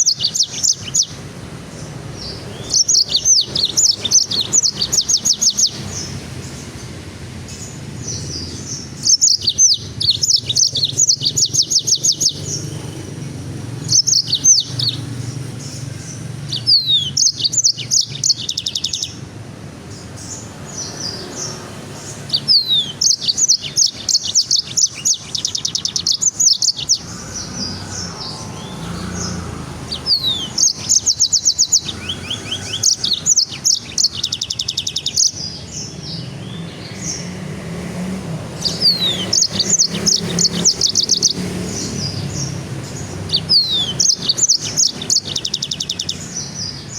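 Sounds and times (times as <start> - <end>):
songbird trilling and whistling: 0.0 - 19.2, 19.9 - 46.9.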